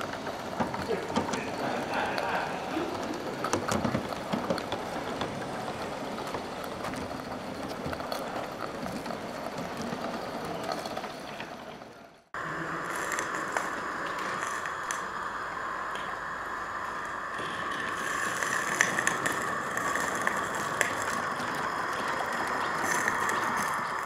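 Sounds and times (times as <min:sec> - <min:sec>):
steady high hiss: 0:00.0 - 0:08.5, 0:12.3 - 0:24.0
model train running on track: 0:00.0 - 0:24.0
wheel and rail clicks: 0:00.0 - 0:24.0.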